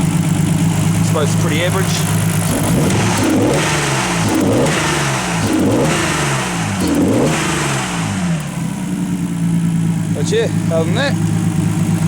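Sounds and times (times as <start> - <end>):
car engine revving from idle: 0.0 - 12.0.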